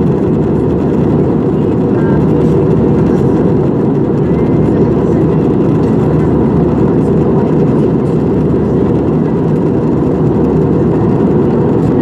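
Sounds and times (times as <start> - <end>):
jet cabin engine rush: 0.0 - 12.0.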